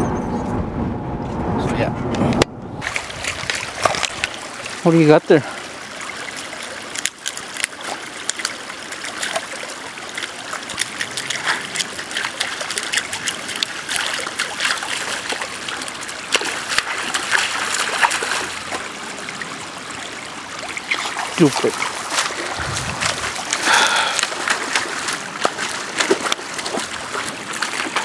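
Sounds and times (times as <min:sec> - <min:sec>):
dog splashing in creek: 0:02.8 - 0:19.4, 0:20.6 - 0:28.0
water trickling: 0:02.8 - 0:28.0.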